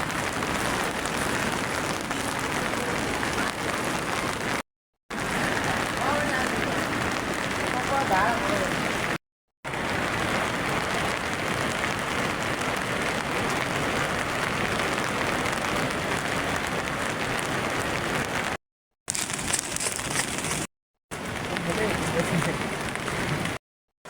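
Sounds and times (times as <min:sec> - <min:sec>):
heavy rain falling: 0:00.0 - 0:23.6.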